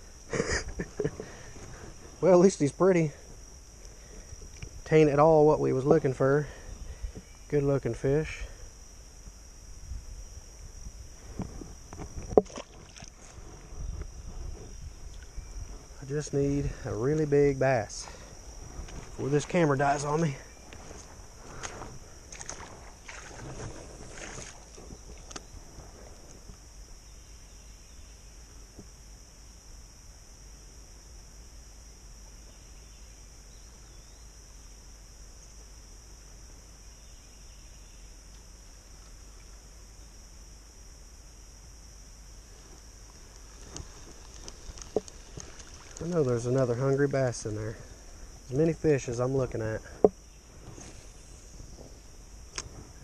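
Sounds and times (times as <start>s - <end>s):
high-pitched insect buzz: 0.0s - 53.0s.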